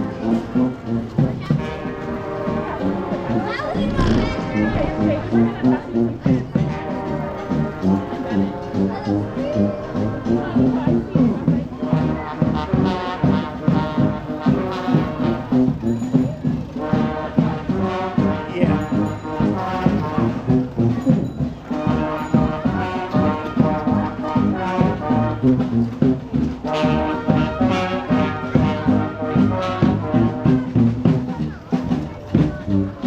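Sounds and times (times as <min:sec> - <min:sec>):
horns playing melody: 0:00.0 - 0:33.0
steady drum beat: 0:00.0 - 0:33.0.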